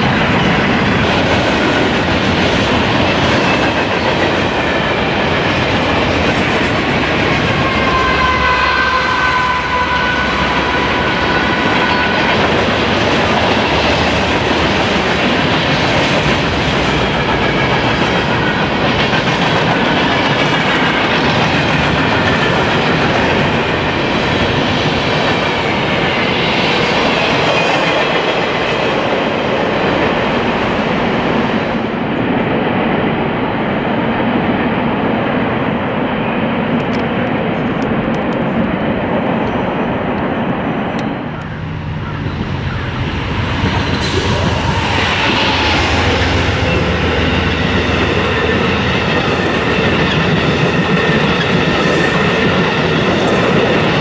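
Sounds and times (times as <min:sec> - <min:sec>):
freight train rumbling past: 0:00.0 - 0:54.0
passenger train cars passing: 0:00.0 - 0:54.0.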